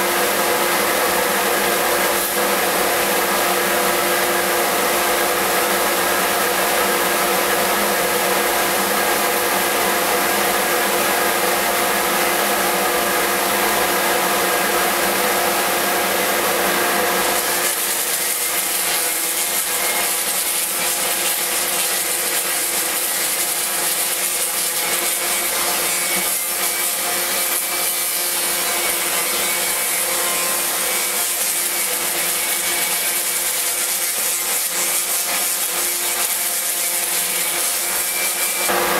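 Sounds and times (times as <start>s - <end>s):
orbital sander sanding wood: 0.0s - 38.9s.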